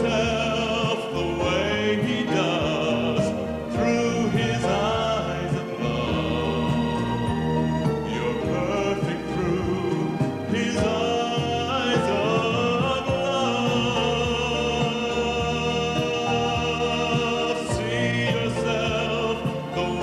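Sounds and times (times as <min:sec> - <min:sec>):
operatic singing voice: 0:00.0 - 0:20.0
orchestral accompaniment: 0:00.0 - 0:20.0.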